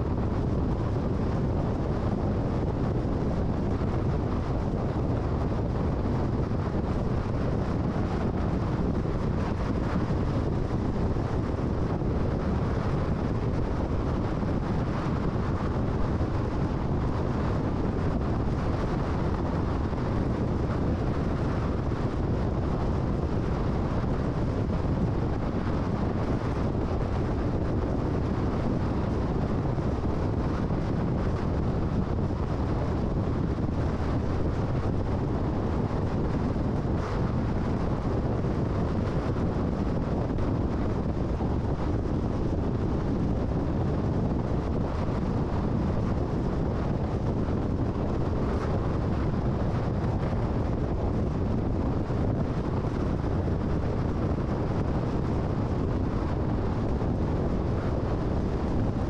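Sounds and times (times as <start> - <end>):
car tyre and wind noise: 0.0 - 59.0.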